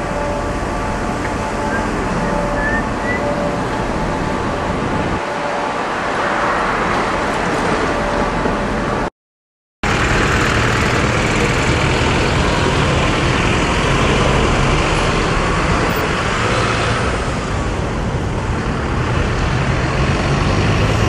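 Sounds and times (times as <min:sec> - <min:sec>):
road traffic roar: 0:00.0 - 0:09.1, 0:09.8 - 0:21.0.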